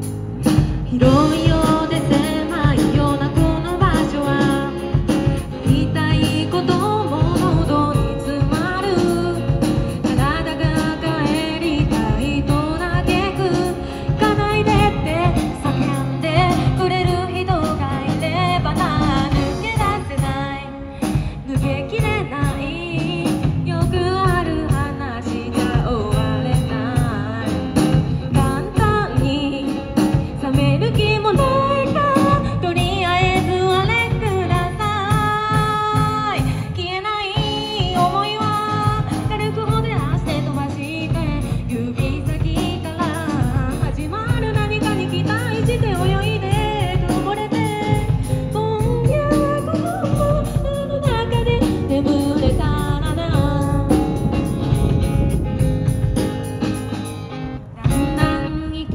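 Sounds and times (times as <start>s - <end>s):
acoustic guitar: 0.0s - 58.9s
drum kit: 0.0s - 58.9s
electric bass: 0.0s - 58.9s
woman singing: 0.6s - 55.4s, 57.7s - 58.9s.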